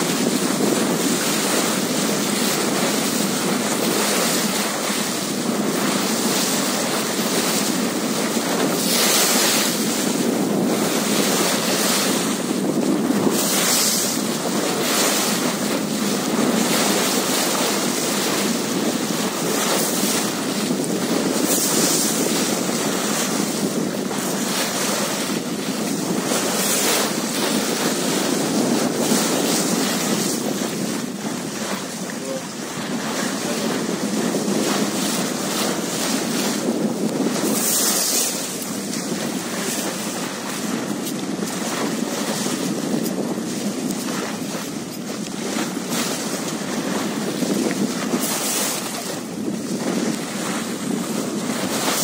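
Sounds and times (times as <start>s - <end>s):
sea waves washing: 0.0s - 52.0s
wind across microphone: 0.0s - 52.0s.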